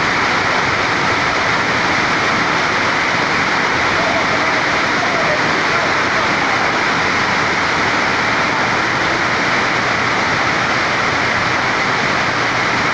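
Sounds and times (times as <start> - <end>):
rushing water: 0.0 - 12.9.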